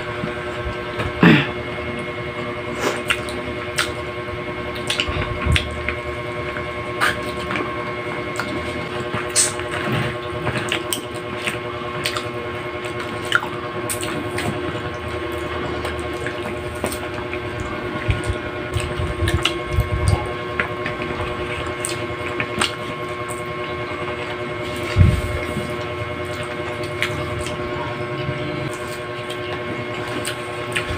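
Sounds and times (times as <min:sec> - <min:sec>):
machine hum: 0:00.0 - 0:30.9
chewing clicks and smacks: 0:02.8 - 0:04.1, 0:04.7 - 0:07.7, 0:08.3 - 0:23.5, 0:24.2 - 0:27.6, 0:28.7 - 0:30.9.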